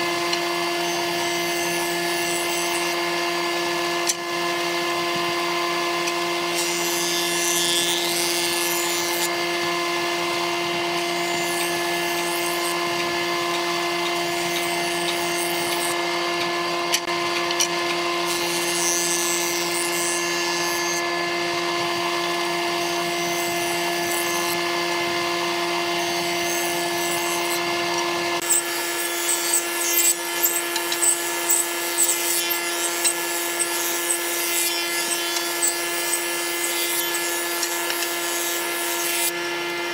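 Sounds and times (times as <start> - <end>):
jointer-planer whining: 0.0 - 39.9
wood going through cutters: 0.0 - 39.9.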